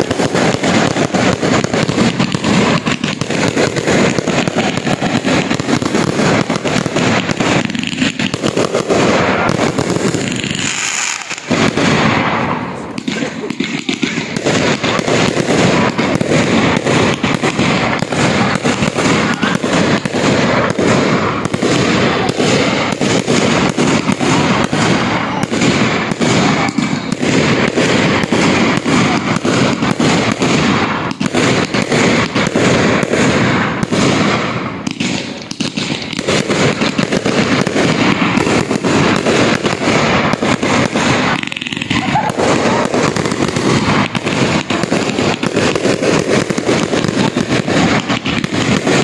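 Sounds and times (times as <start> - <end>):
fireworks bangs and crackle: 0.0 - 49.0.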